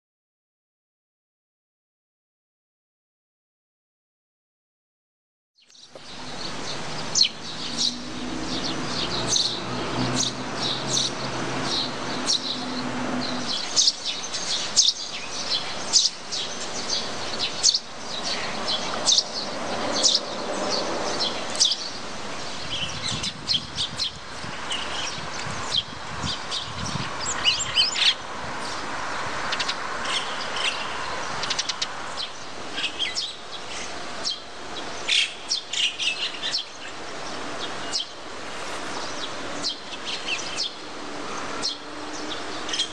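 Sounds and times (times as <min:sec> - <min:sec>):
outdoor background noise: 0:05.6 - 0:42.9
small birds chirping: 0:05.6 - 0:42.9.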